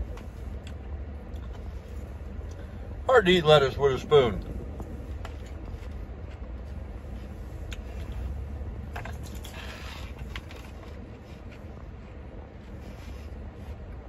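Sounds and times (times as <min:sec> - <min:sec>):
low rumble inside car: 0:00.0 - 0:14.0.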